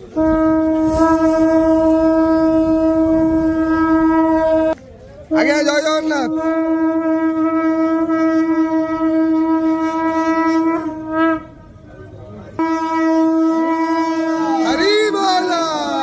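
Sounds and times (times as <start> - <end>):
conch shell blast: 0.0 - 11.7, 12.6 - 16.0.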